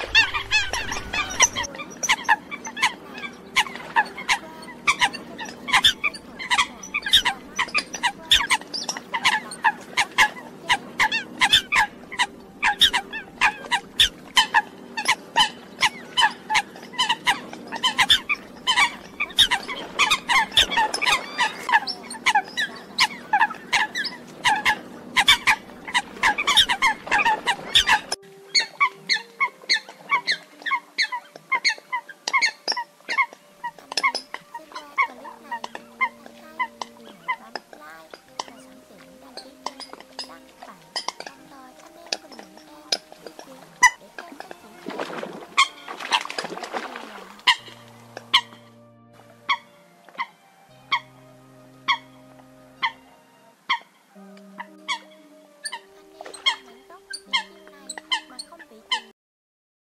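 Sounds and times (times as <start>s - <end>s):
coots calling: 0.0s - 59.1s.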